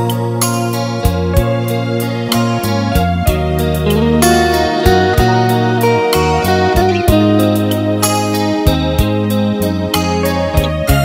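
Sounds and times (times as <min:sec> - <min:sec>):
instrumental music with bass and beat: 0:00.0 - 0:11.0.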